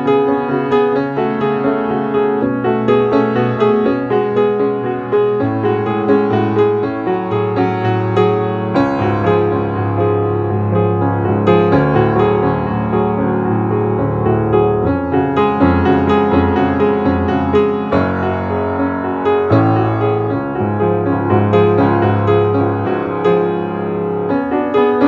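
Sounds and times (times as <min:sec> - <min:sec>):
grand piano playing: 0:00.0 - 0:25.0.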